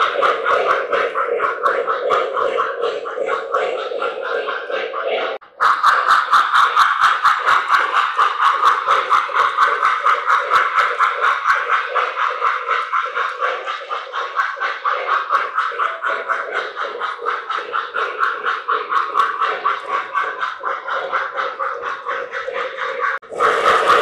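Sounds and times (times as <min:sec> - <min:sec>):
model train humming: 0:00.0 - 0:24.0.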